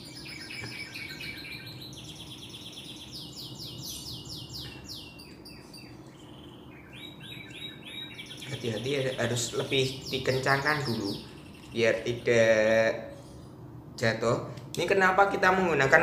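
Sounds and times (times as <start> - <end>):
songbird singing trills: 0.0 - 13.1.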